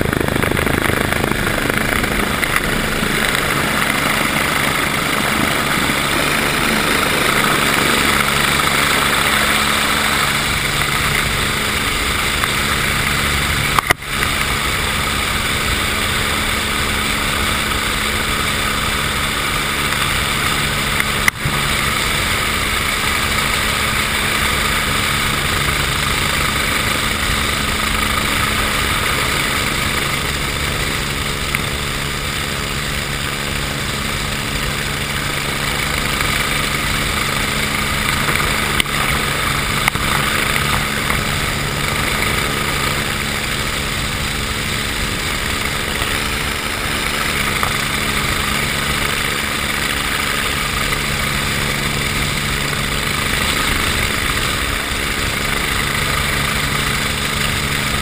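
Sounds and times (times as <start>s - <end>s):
machinery hum and whine: 0.0s - 58.0s.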